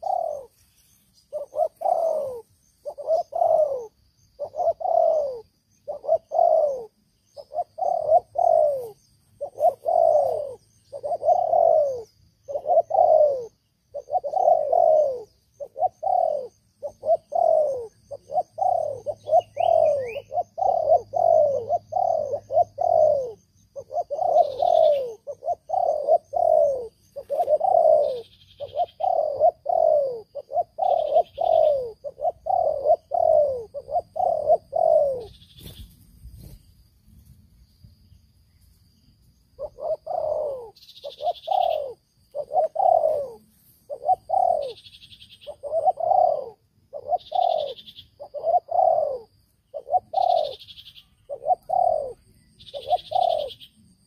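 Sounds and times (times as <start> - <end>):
dove cooing: 0.0 - 36.6, 39.5 - 53.8
small bird chirping: 0.0 - 54.0.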